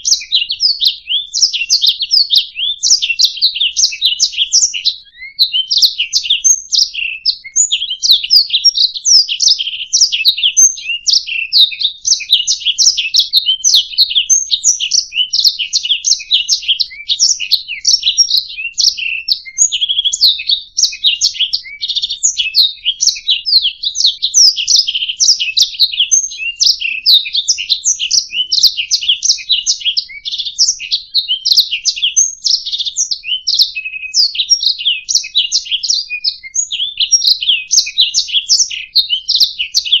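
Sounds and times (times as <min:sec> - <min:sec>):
canary singing: 0:00.0 - 0:40.0.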